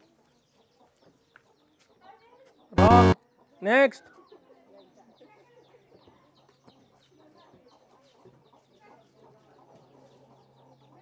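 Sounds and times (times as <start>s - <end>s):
chickens peeping and clucking: 0.0s - 11.0s.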